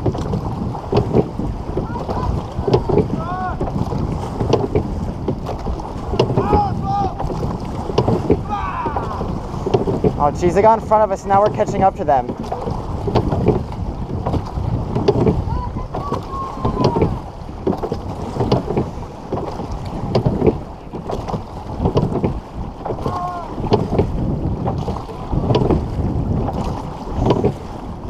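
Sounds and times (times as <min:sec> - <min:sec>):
oars and oarlocks clicking: 0:00.0 - 0:28.0
wind rumbling on microphone: 0:00.0 - 0:28.0.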